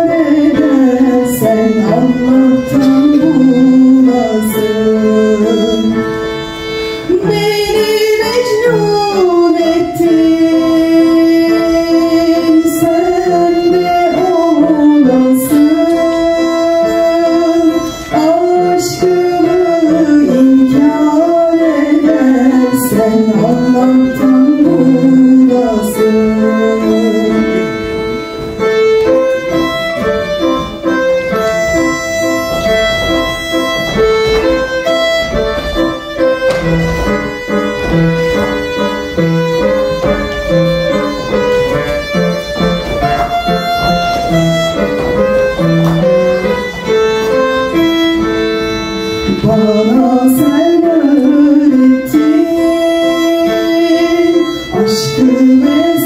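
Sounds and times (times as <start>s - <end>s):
bowed string melody: 0.0s - 56.0s
chordal accompaniment: 0.0s - 56.0s.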